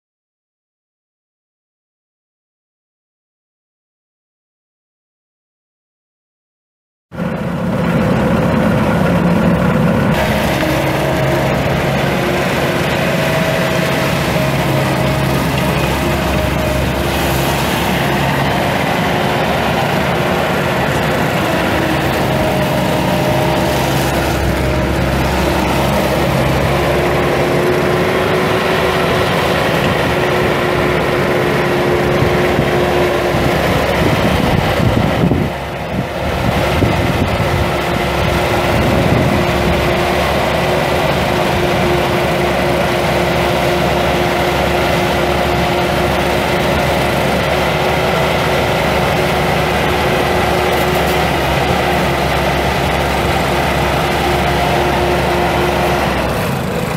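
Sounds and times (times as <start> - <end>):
diesel engine running: 7.1 - 56.9.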